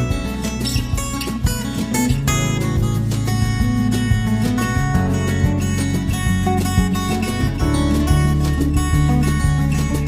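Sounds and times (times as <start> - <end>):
acoustic guitar song: 0.0 - 10.0.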